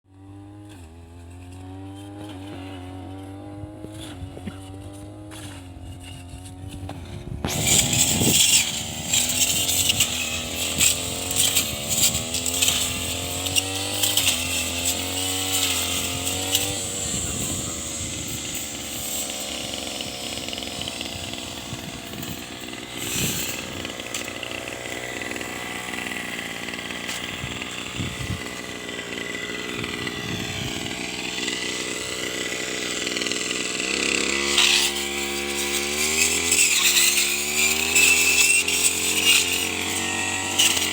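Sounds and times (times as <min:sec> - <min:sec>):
blade cutting grass: 0:00.0 - 0:40.9
brush cutter engine revving: 0:00.1 - 0:40.9.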